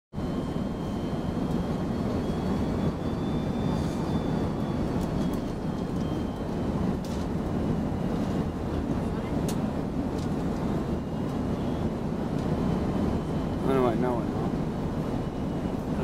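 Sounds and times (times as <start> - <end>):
faint high whine: 0.2 - 16.0
jet engines rumbling: 0.2 - 16.0.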